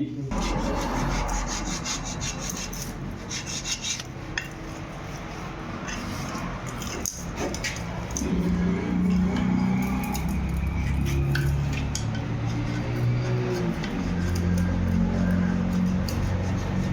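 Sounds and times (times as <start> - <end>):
tool scraping metal part: 0.3 - 16.9.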